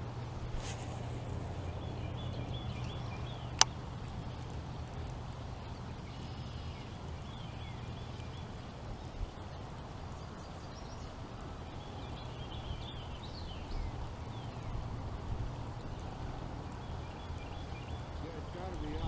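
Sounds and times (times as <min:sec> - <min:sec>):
birds chirping: 0:00.0 - 0:19.0
low rumble and hiss: 0:00.0 - 0:19.0.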